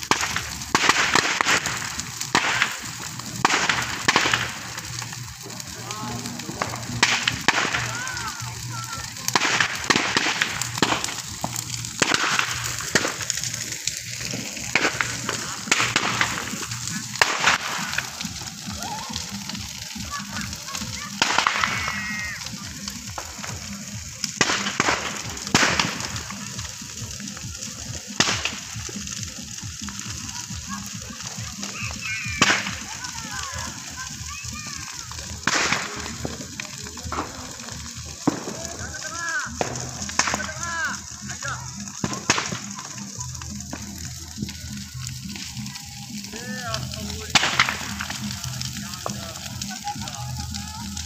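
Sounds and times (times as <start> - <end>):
bonfire crackling and popping: 0.0 - 51.0.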